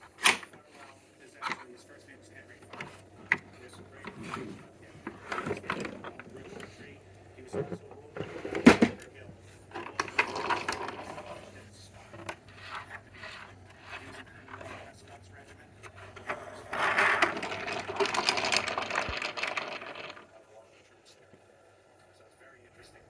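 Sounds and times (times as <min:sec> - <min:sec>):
hard objects clicking and knocking: 0:00.0 - 0:14.9, 0:15.8 - 0:20.4
scraping and rattling: 0:00.0 - 0:20.5.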